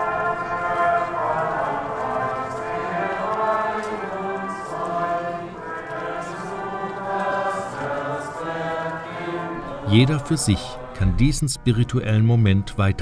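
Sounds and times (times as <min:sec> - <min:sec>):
crowd singing a hymn: 0:00.0 - 0:12.9.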